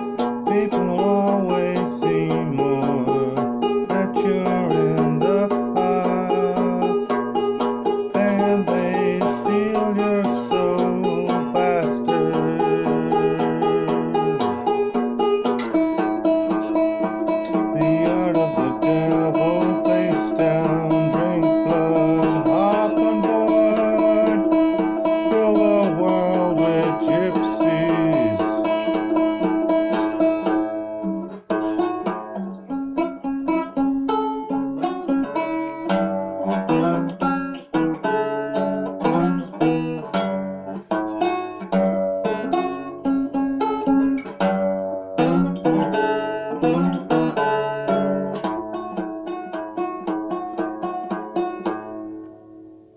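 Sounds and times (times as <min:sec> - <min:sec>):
banjo and guitar music: 0:00.0 - 0:52.9.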